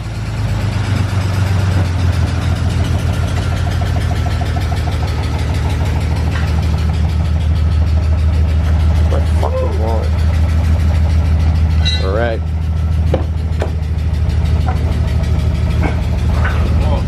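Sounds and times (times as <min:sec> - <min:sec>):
car engine idling: 0:00.0 - 0:17.0
rapid engine ticking knock: 0:00.0 - 0:17.0.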